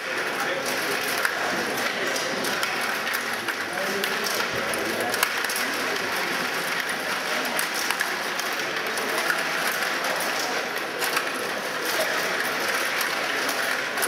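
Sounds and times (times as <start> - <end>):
background hubbub: 0.0 - 14.0
table hockey clicks and rattles: 0.0 - 14.0.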